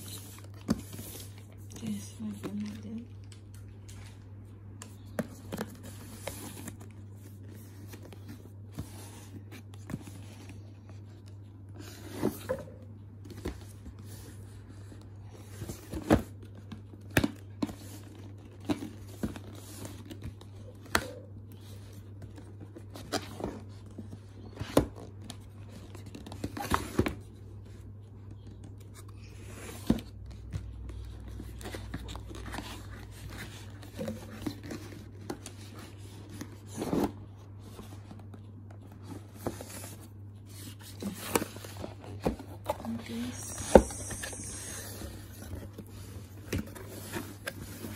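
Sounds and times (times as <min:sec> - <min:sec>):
cardboard and wrapping crinkling: 0:00.0 - 0:04.2, 0:04.8 - 0:47.9.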